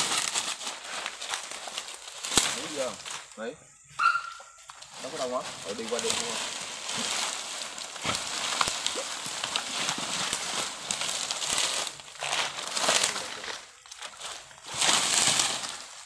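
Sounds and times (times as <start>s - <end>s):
dry leaves rustling and crackling: 0.0s - 16.0s
steady hiss: 0.0s - 16.0s.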